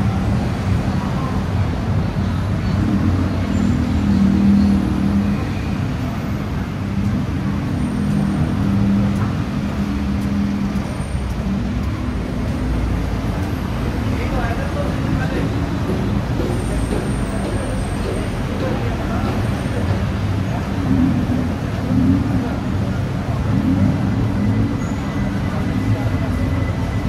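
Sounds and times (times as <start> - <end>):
road traffic engine drone: 0.0 - 27.0.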